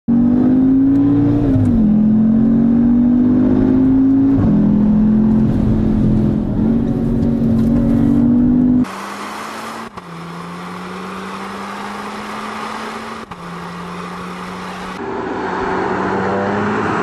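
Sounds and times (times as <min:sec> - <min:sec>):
car engine accelerating hard: 0:00.1 - 0:17.0.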